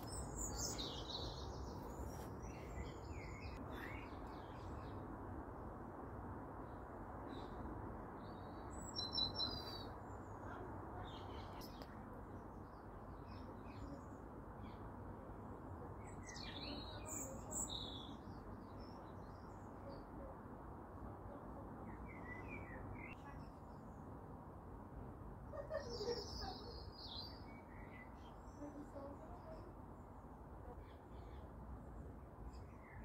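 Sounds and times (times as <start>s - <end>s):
songbirds chirping and trilling: 0.0s - 33.0s.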